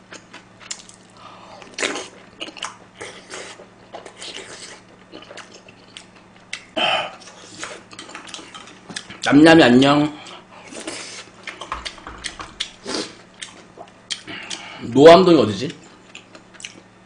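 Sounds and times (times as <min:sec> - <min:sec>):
man chewing and slurping: 0:00.1 - 0:09.3, 0:10.2 - 0:14.8.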